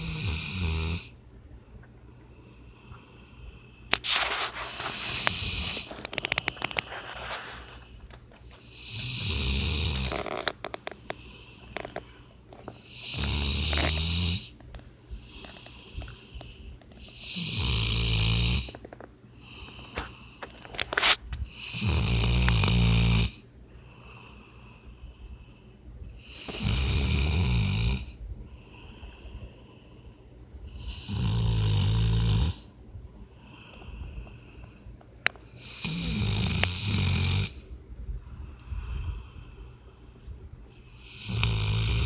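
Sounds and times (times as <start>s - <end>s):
puppy snoring: 0.0s - 1.1s, 2.3s - 25.4s, 26.1s - 37.8s, 40.7s - 42.0s
soft breaths: 1.0s - 17.9s, 18.6s - 22.7s, 23.3s - 42.0s.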